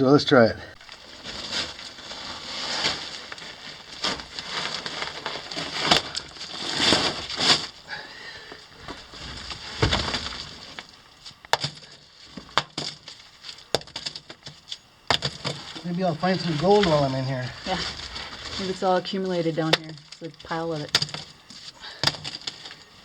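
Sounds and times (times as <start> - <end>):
rocks and dirt scraping: 0.4 - 23.0.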